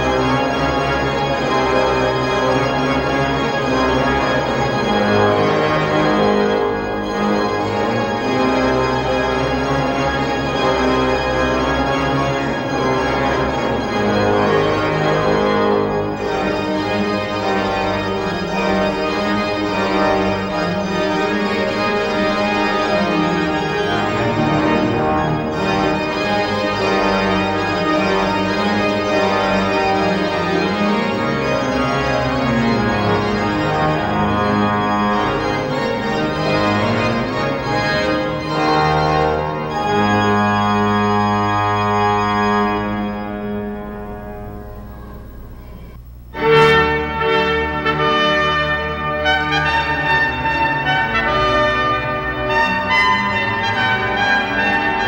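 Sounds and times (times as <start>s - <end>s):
pipe organ playing chords: 0.0s - 55.0s.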